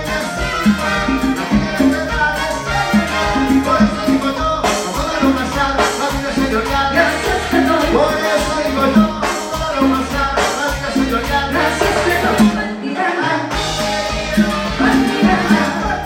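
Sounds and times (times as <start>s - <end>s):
latin dance orchestra playing: 0.0s - 16.0s.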